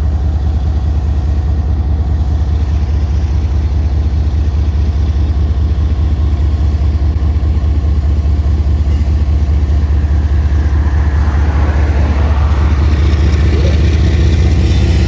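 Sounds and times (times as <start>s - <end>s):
locomotive diesel engine drone: 0.0s - 15.0s.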